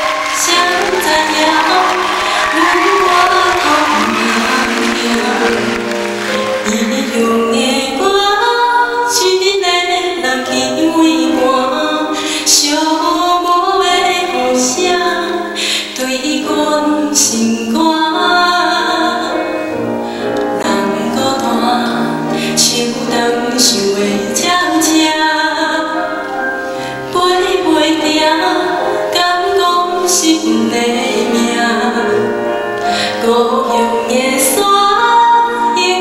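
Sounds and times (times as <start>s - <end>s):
grand piano: 0.0s - 36.0s
woman singing a slow ballad: 0.1s - 36.0s.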